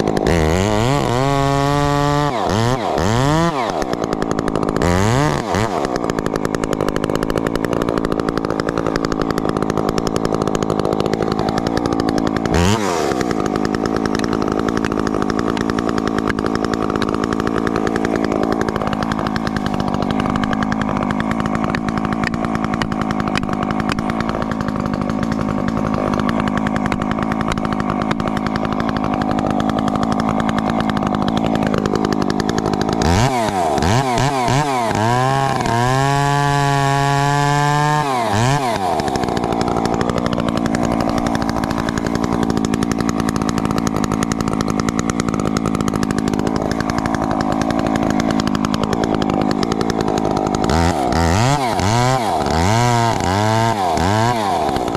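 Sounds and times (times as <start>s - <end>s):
chainsaw running and revving: 0.0s - 54.9s.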